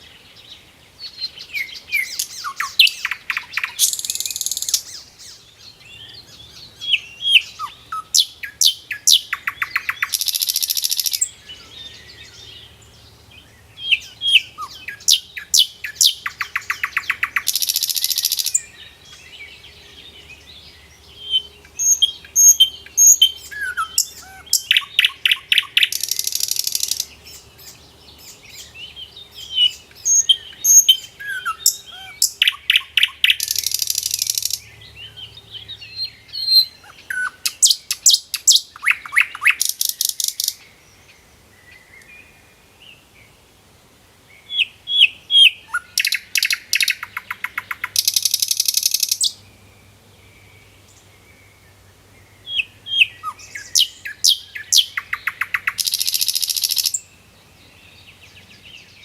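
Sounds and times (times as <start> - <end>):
bird singing chirps and trills: 0.0 - 43.4, 44.3 - 59.0.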